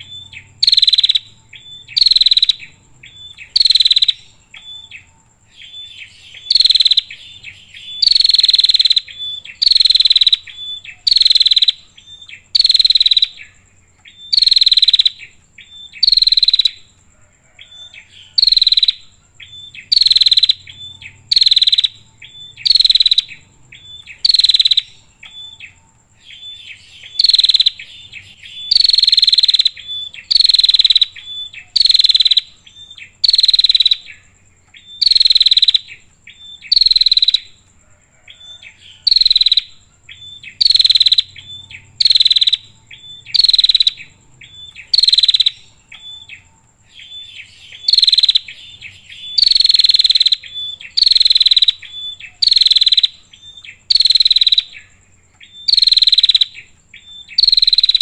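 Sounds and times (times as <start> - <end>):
thin high insect-like tone: 0.0 - 58.0.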